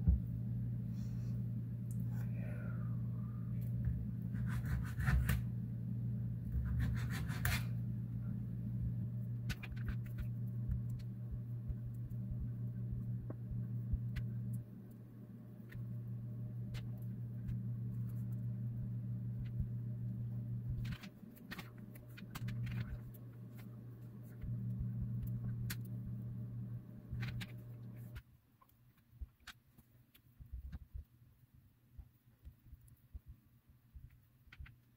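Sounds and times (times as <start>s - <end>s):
low machine hum: 0.0s - 28.3s.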